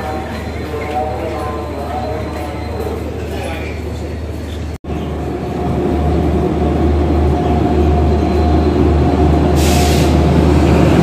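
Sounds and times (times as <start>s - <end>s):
electric locomotive humming: 0.0s - 11.0s.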